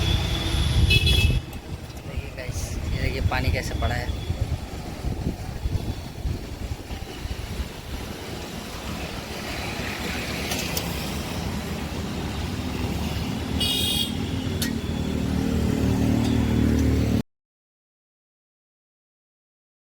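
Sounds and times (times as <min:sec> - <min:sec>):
traffic hiss on wet street: 0:00.0 - 0:17.2.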